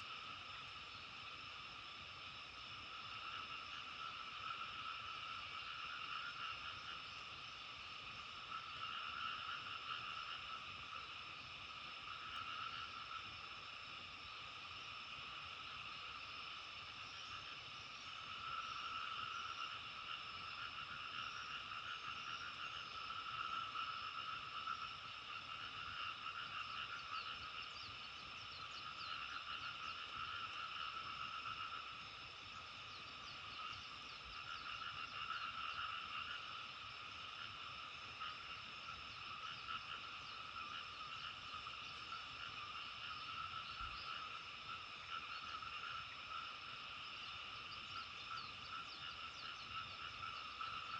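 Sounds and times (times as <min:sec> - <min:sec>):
chorus of frogs croaking: 0:00.0 - 0:50.9.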